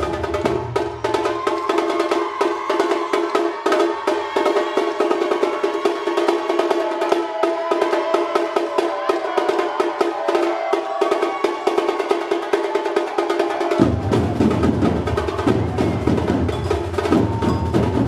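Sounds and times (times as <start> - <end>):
percussion ensemble drumming: 0.0 - 18.0.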